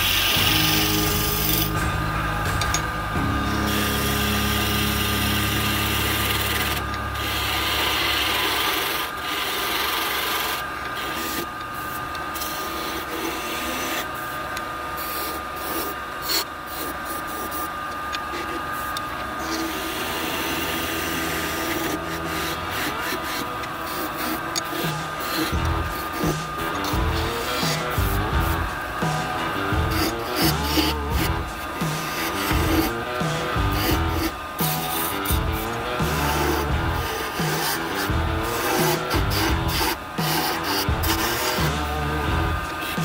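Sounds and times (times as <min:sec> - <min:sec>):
gouge cutting wood on lathe: 0:00.0 - 0:43.0
wood lathe running: 0:00.0 - 0:43.0.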